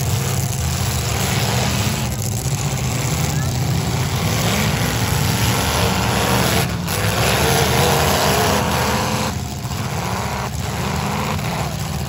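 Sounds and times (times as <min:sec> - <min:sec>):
car engines revving loudly: 0:00.0 - 0:12.0.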